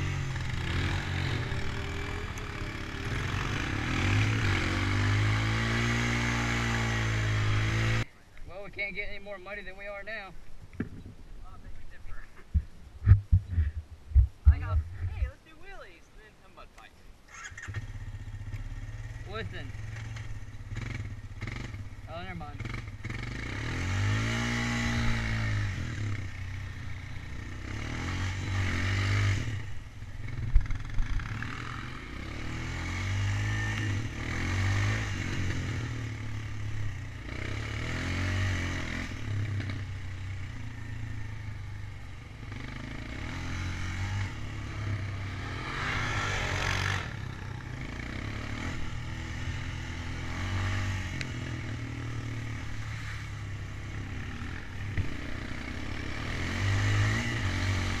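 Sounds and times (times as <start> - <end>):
atv engine revving: 0.0 - 8.1, 17.3 - 58.0.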